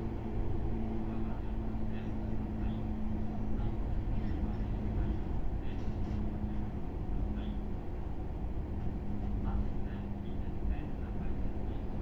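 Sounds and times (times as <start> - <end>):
train wheels rumbling on track: 0.0 - 11.9.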